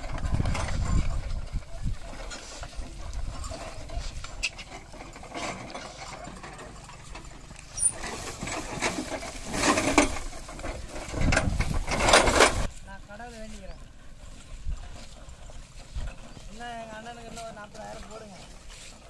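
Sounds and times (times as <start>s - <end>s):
cart creaking and rattling: 0.0s - 19.0s.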